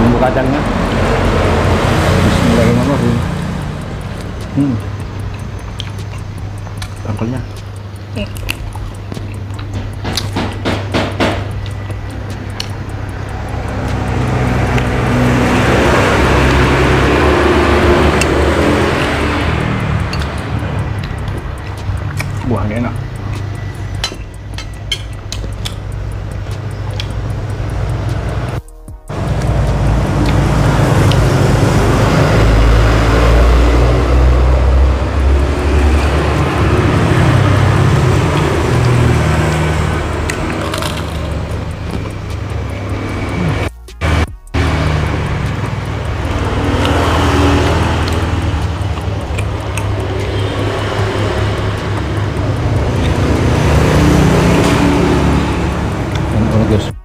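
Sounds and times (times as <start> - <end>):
steady traffic noise: 0.0 - 57.0
vehicle engine running: 0.0 - 57.0.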